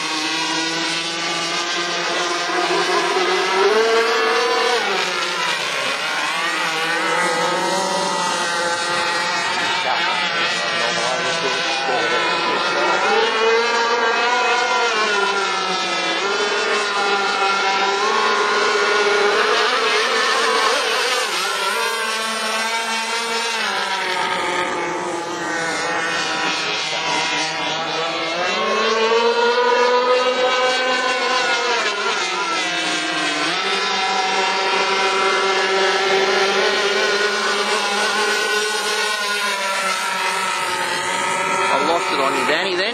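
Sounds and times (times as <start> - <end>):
model boat engines racing: 0.0 - 42.9.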